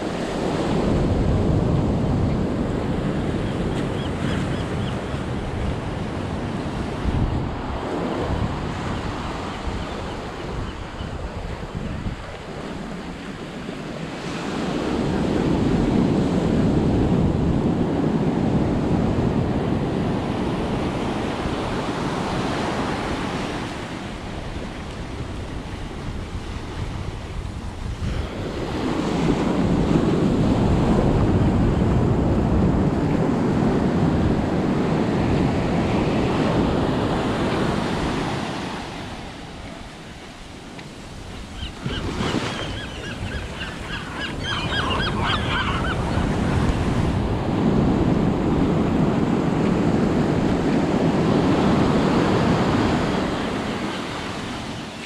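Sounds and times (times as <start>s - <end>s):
ocean surf washing up beach: 0.0s - 55.0s.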